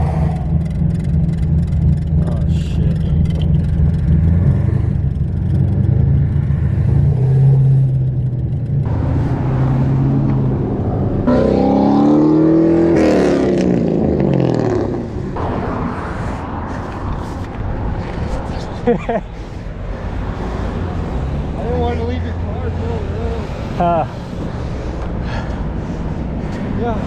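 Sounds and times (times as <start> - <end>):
car engine: 0.0 - 27.0
road noise: 0.0 - 27.0.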